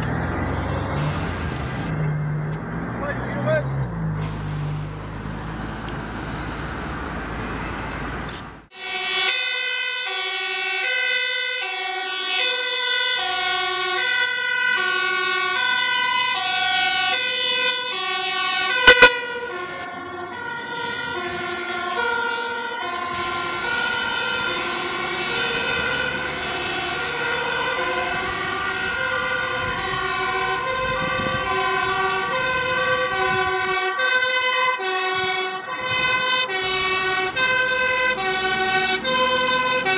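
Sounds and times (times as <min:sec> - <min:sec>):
road traffic: 0:00.0 - 0:39.9
two-tone fire engine siren: 0:00.0 - 0:39.9.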